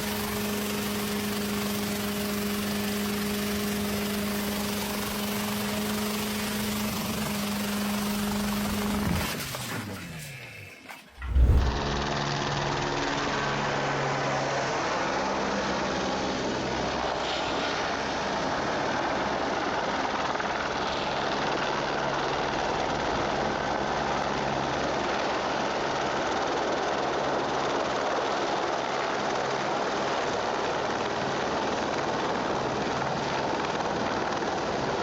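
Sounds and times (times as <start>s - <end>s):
helicopter running: 0.0s - 35.0s.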